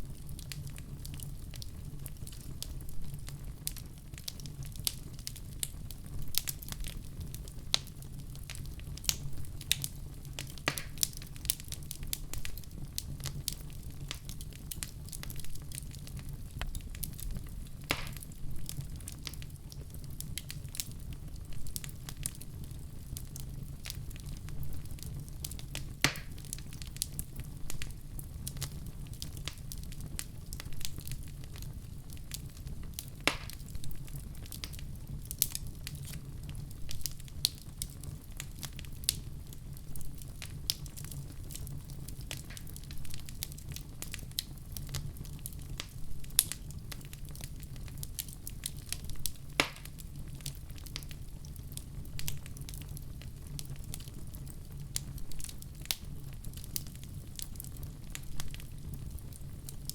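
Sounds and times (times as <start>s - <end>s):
wood fire burning and crackling: 0.0s - 59.9s.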